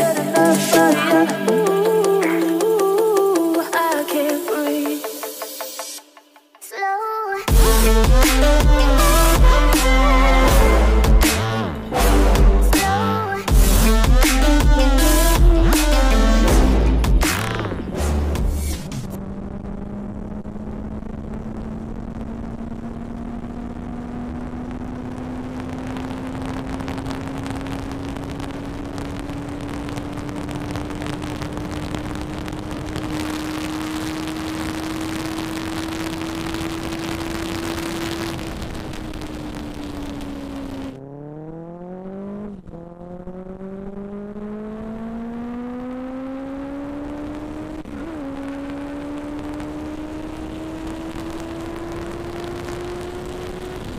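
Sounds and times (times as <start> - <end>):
motorcycle engine revving: 7.5 - 53.9.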